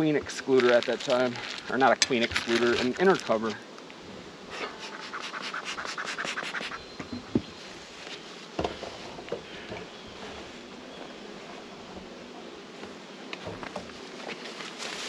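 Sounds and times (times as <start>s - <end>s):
hive tool scraping wood: 0.0s - 15.0s.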